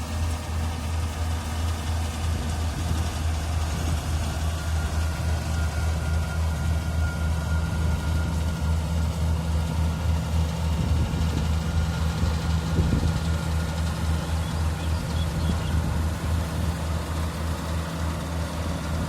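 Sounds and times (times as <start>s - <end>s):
combine harvester engine drone: 0.0s - 19.0s
faint high whine: 0.0s - 19.0s.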